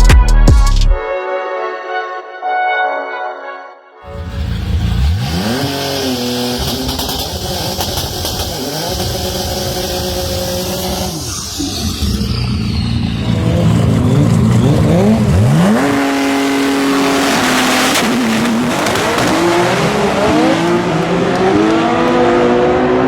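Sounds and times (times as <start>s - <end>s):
drag car engine revving: 4.1s - 23.0s.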